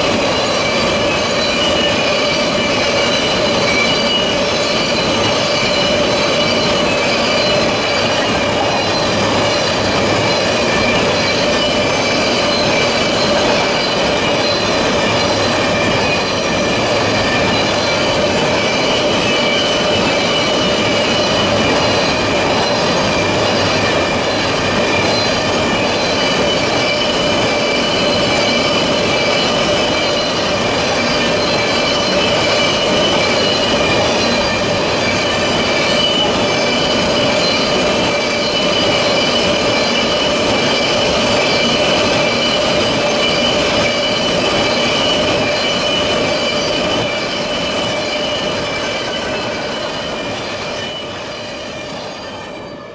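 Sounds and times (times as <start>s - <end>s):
high wheel squealing: 0.0s - 52.9s
train wheels rumbling on rail: 0.0s - 52.9s.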